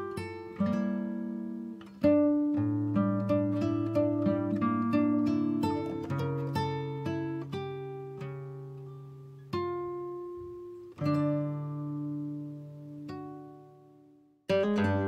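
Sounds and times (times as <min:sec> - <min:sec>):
slow acoustic guitar piece: 0:00.0 - 0:15.0.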